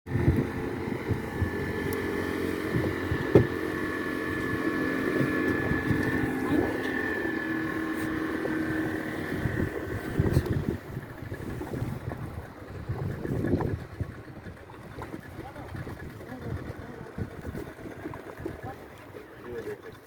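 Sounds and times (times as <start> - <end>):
wind buffeting microphone: 0.1 - 19.2
outboard motor running: 0.1 - 20.0.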